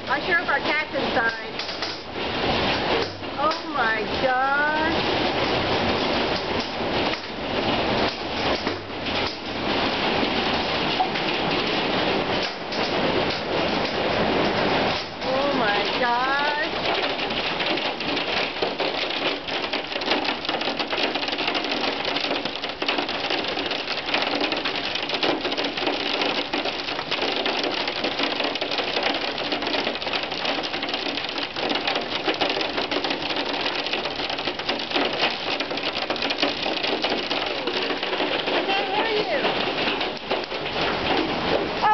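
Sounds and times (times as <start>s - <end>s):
hail and rain pelting: 0.0s - 41.9s.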